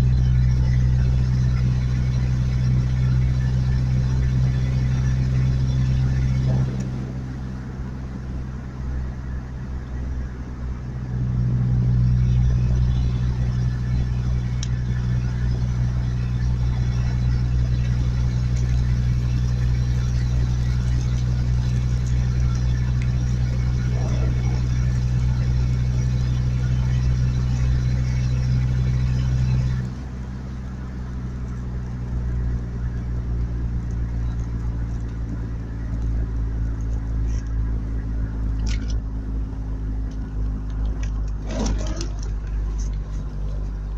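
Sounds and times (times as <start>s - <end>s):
vehicle engine humming: 0.0s - 43.9s.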